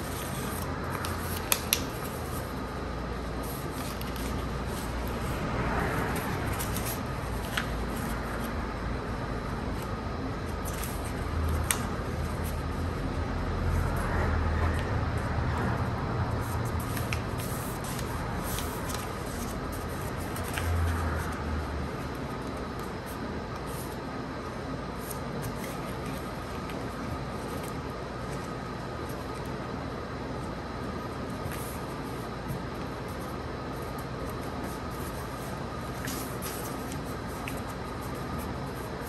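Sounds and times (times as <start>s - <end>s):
paper rustling as it is folded: 0.0s - 14.1s, 16.4s - 29.6s, 31.2s - 39.0s
low steady hum: 0.0s - 39.0s.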